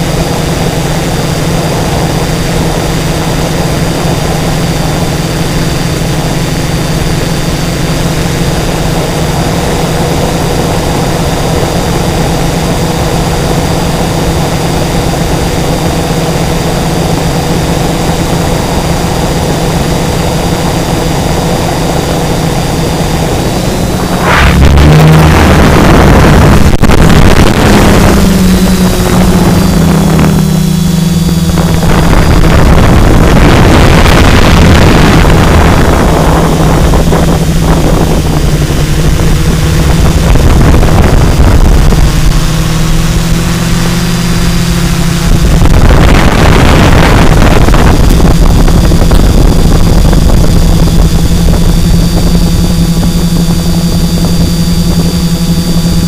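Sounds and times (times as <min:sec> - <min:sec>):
drone motors buzzing: 0:00.0 - 0:56.0
faint high whine: 0:00.0 - 0:56.0
rush of air: 0:00.0 - 0:56.0.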